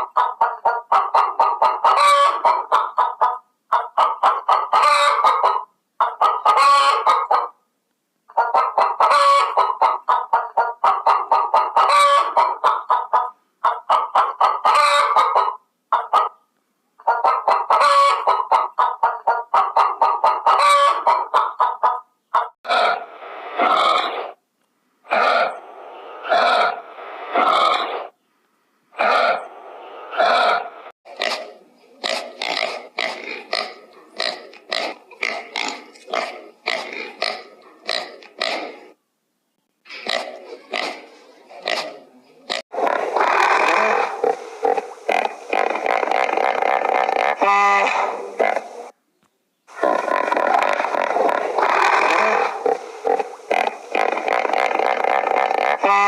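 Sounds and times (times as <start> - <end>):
pig calling: 0.0 - 7.5, 8.4 - 16.3, 17.1 - 24.4, 25.1 - 25.6, 26.2 - 28.1, 29.0 - 29.5, 30.1 - 39.0, 39.9 - 48.8, 49.7 - 56.0
chickens clucking: 0.0 - 7.6, 8.3 - 24.4, 25.1 - 28.2, 28.9 - 39.0, 39.9 - 49.0, 49.7 - 56.0.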